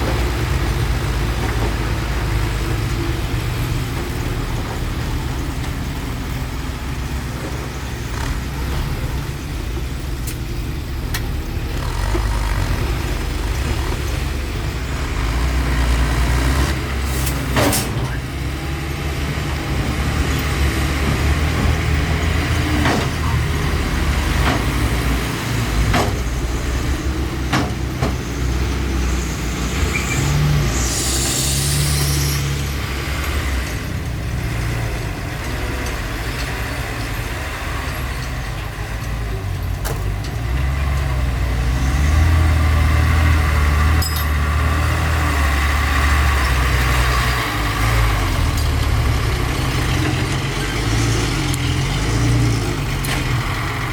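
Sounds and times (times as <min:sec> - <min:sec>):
heavy diesel engine rumbling: 0:00.0 - 0:53.9.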